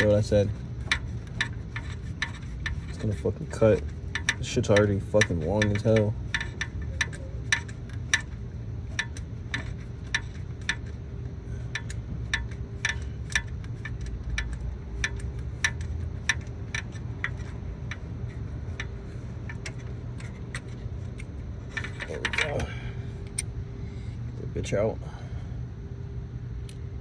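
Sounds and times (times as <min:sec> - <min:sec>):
socket ratchet clicking: 0:00.0 - 0:11.0, 0:11.6 - 0:22.6
low hum: 0:00.0 - 0:27.0.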